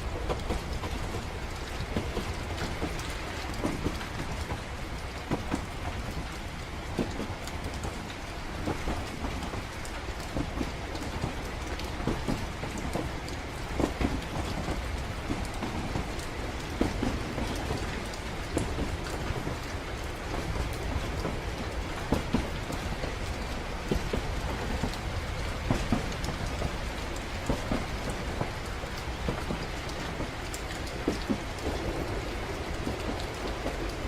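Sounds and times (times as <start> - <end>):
rain on windows: 0.0 - 34.0
train carriage rumble: 0.0 - 34.0.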